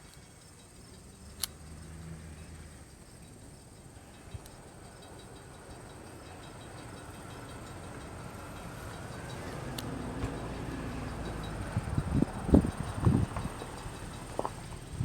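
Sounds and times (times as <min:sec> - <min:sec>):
train approaching: 0:01.8 - 0:15.0.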